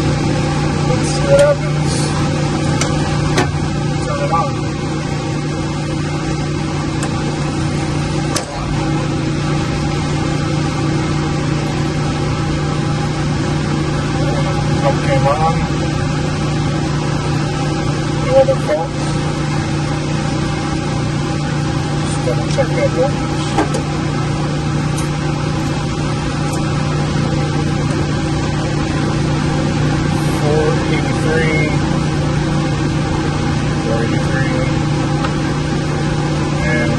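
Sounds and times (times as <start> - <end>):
machinery humming: 0.0 - 36.9.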